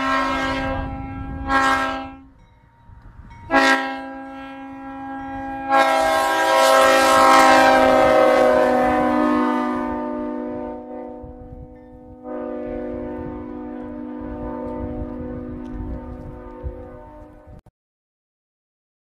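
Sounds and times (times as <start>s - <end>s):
multi-chime train horn blasts: 0.0s - 2.7s, 3.3s - 17.6s.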